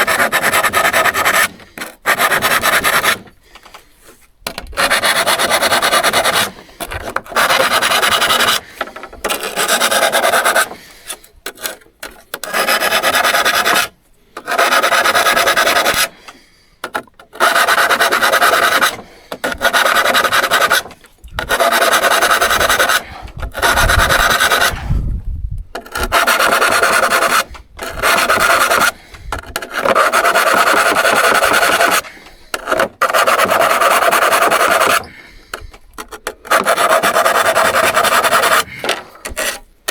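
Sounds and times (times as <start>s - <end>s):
file rasping on saw teeth: 0.0s - 3.3s, 4.7s - 16.2s, 16.8s - 25.0s, 25.8s - 39.9s.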